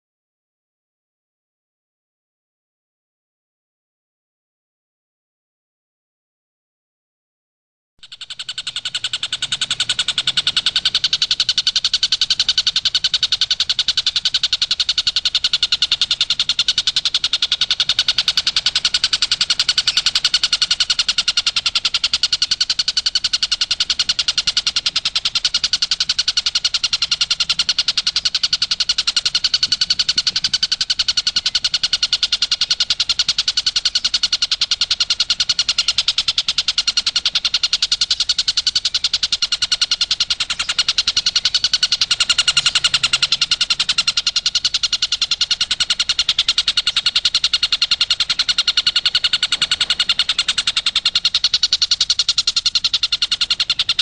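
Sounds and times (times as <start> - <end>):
kingfisher rapid chatter: 8.0 - 54.0.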